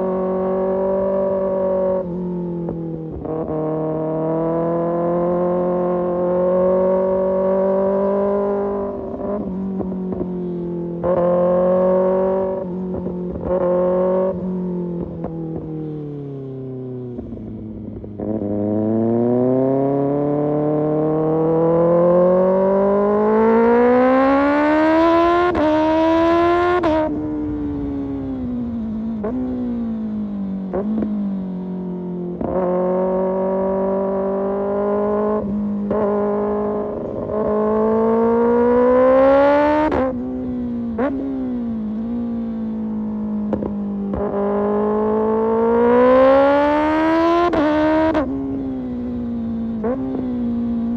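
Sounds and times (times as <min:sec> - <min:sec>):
sport motorcycle accelerating: 0:00.0 - 0:50.9.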